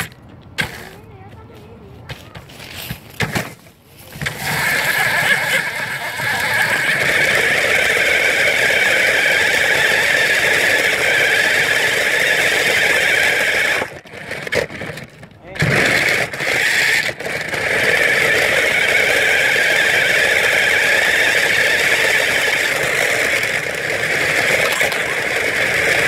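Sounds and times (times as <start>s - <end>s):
wheels rolling on ground: 0.0s - 26.0s
toy car electric motor whine: 4.0s - 26.0s.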